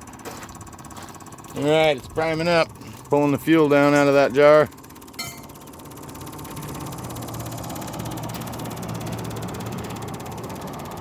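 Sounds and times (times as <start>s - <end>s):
fuel pump low hum: 0.0s - 11.0s
fuel pump ticking: 0.0s - 11.0s.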